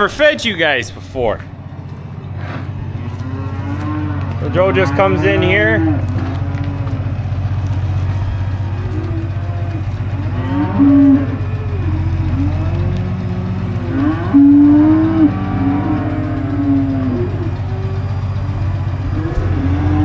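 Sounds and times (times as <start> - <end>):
low engine hum: 1.0 - 20.0
cattle mooing: 1.4 - 20.0.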